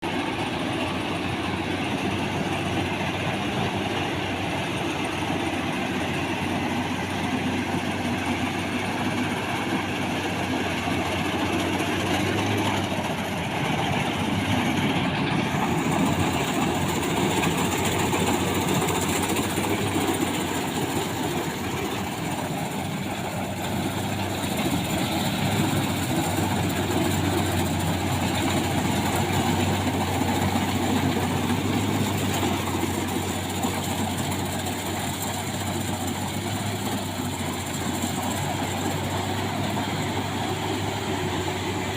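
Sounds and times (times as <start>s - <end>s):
combine harvester drone: 0.0s - 41.9s.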